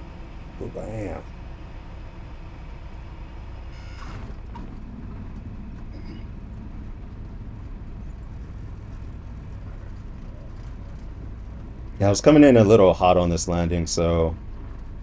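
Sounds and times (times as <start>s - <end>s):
propeller engine idling: 0.0s - 15.0s.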